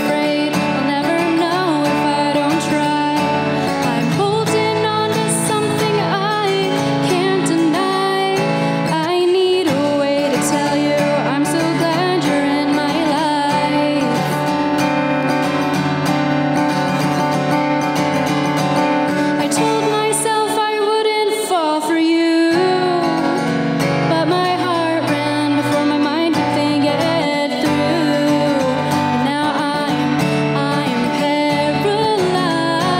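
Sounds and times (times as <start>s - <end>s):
woman singing: 0.0s - 14.7s, 19.2s - 32.9s
acoustic guitar strumming: 0.0s - 32.9s.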